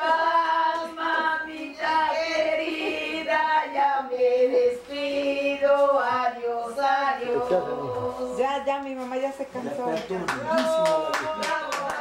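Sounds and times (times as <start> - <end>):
woman singing: 0.0 - 9.2, 10.5 - 12.0.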